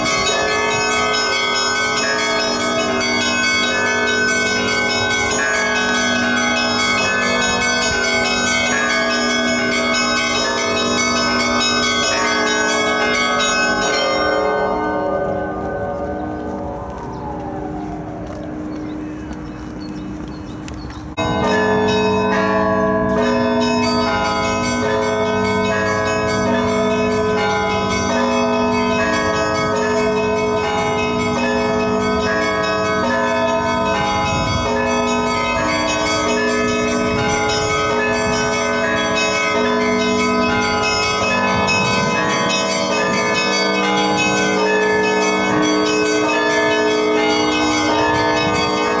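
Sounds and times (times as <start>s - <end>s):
church bells pealing: 0.0s - 49.0s.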